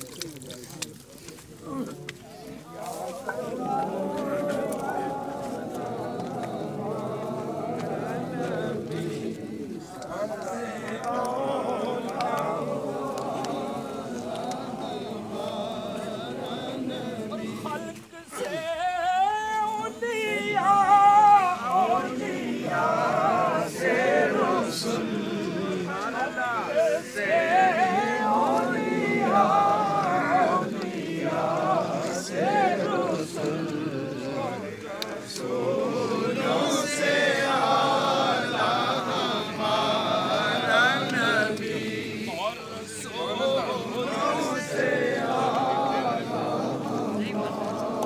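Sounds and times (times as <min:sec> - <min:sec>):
men chanting religious recitation: 0:00.0 - 0:48.0.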